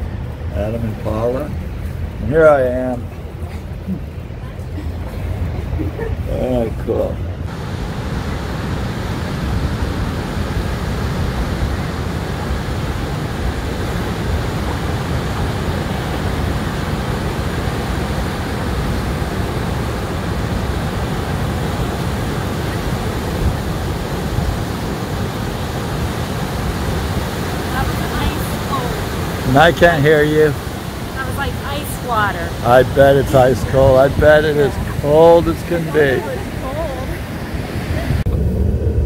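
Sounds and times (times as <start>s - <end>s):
wind buffeting microphone: 7.2s - 39.0s
surf breaking on beach: 7.5s - 39.0s.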